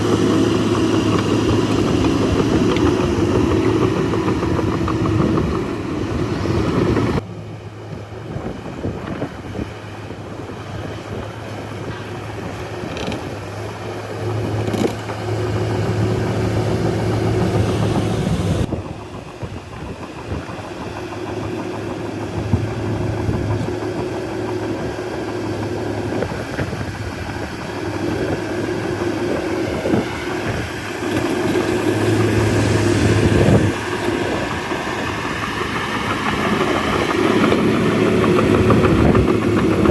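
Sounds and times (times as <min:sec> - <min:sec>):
bulldozer diesel engine surging: 0:00.0 - 0:39.9.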